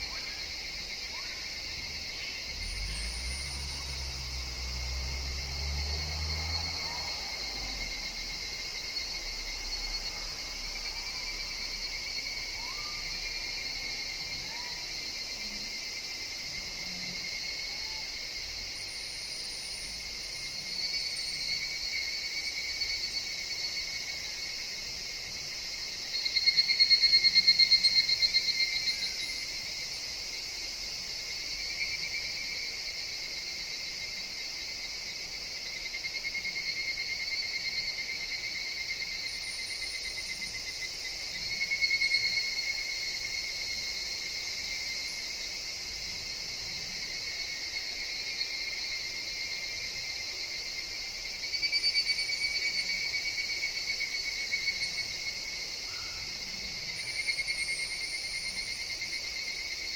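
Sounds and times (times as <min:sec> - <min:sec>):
cicada chorus: 0:00.0 - 0:59.9
pulsing cicada call: 0:00.0 - 0:59.9.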